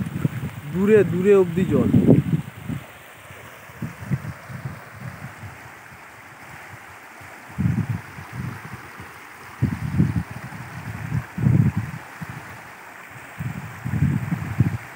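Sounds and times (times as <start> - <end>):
floodwater rushing: 0.0 - 14.9
wind buffeting microphone: 0.0 - 14.9.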